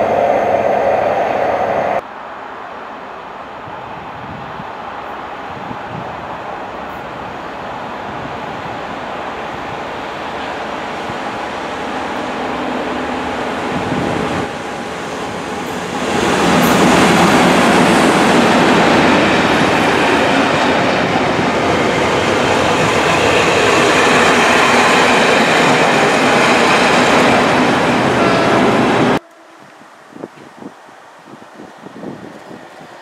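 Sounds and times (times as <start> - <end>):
diesel locomotive engine: 0.0 - 30.1
train wheels rumbling on rail: 3.7 - 30.7.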